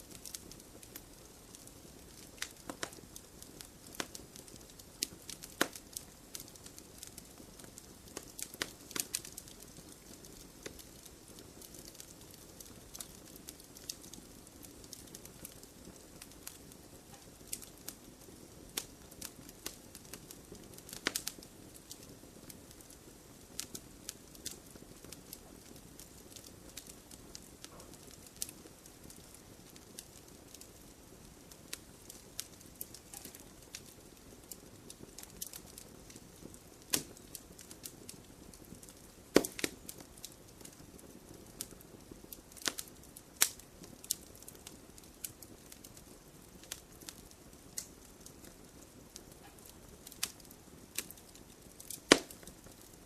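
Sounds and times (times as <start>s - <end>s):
campfire crackling and popping: 0.0s - 53.0s
hiss of flames: 0.0s - 53.0s.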